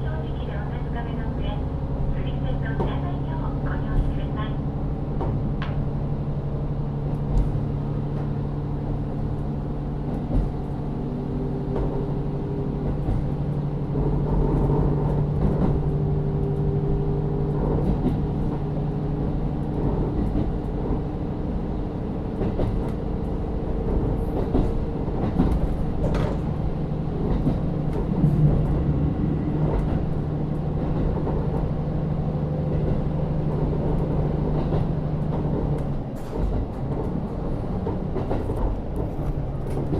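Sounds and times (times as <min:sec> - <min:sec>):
diesel engine low hum: 0:00.0 - 0:39.9.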